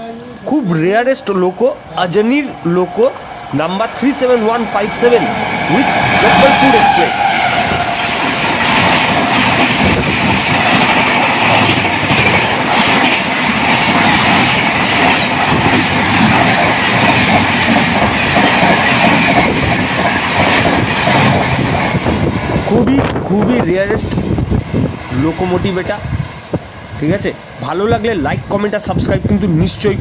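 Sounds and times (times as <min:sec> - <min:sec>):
train wheels rushing on rails: 0:00.0 - 0:30.0.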